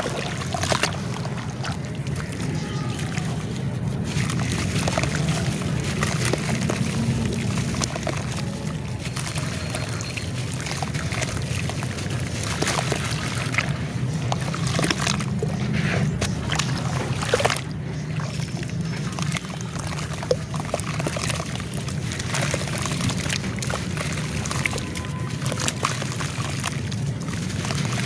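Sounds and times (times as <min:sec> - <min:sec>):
small crackles of clay paste: 0:00.0 - 0:28.0
water sloshing and splashing: 0:00.0 - 0:28.0.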